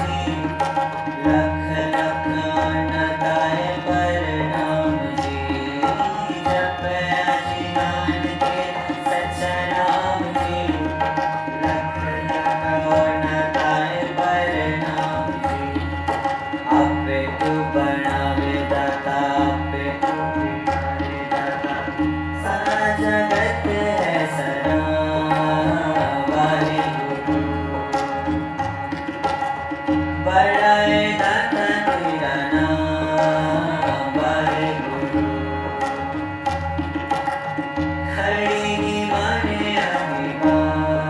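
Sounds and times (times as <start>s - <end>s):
harmonium sustained chords: 0.0s - 29.2s, 29.8s - 41.0s
tabla rhythm: 0.0s - 41.0s.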